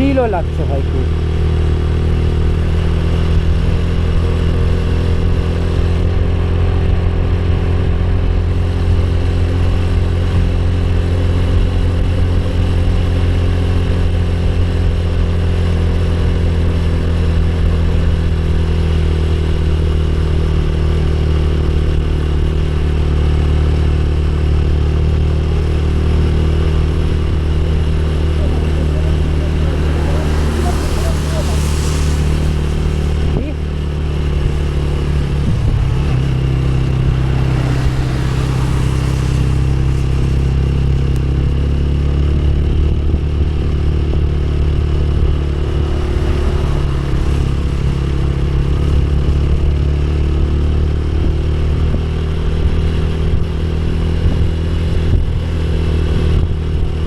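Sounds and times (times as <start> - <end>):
motorcycle engine drone: 0.0 - 57.0.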